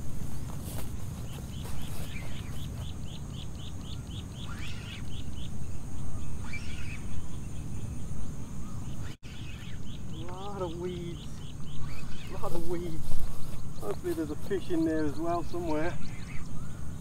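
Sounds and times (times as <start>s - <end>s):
other bird calls: 0.3s - 17.0s.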